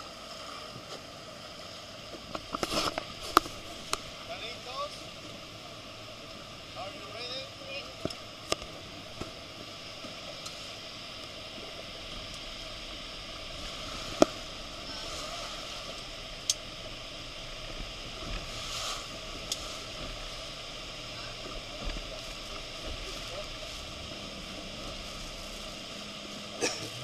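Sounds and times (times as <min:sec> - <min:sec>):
waterfall rushing: 0:01.2 - 0:27.0.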